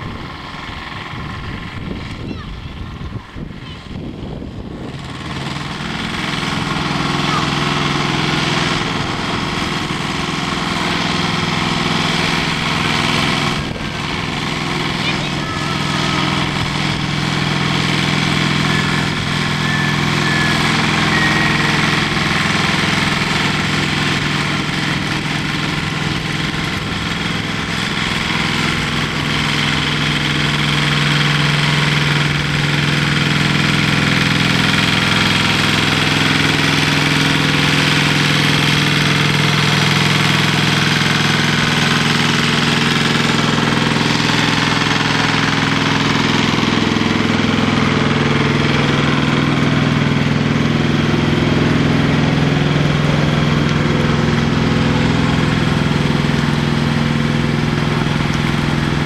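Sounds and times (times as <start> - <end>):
lorry diesel engine at low revs: 0.0 - 59.0.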